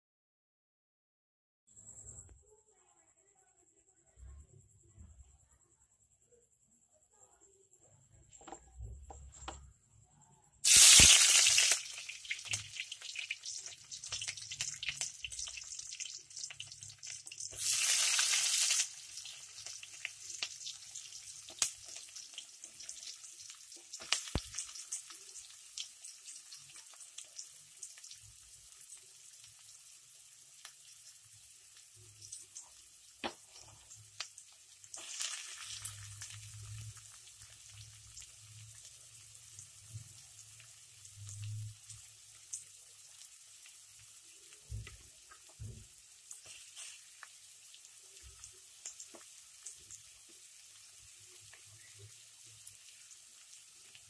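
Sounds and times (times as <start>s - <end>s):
frying crackle and pops: 10.6s - 54.0s
vegetables sizzling in hot oil: 10.6s - 54.0s.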